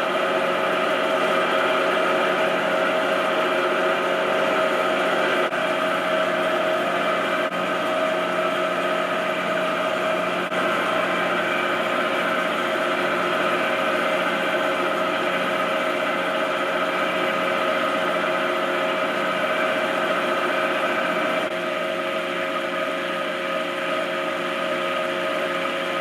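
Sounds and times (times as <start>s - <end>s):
shop machine motor whirring: 0.0s - 26.0s.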